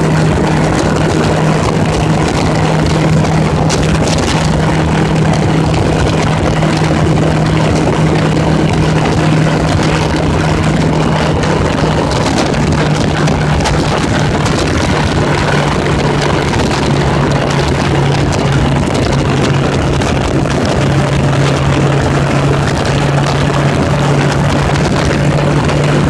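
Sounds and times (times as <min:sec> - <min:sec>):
motorcycle engine cruising: 0:00.0 - 0:26.0
wind rush over microphone: 0:00.0 - 0:26.0.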